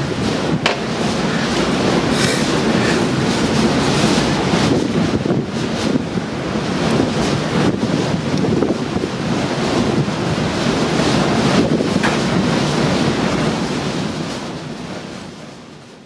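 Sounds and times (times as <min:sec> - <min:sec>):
sea rushing: 0:00.0 - 0:15.1
gale wind buffeting microphone: 0:00.0 - 0:16.0.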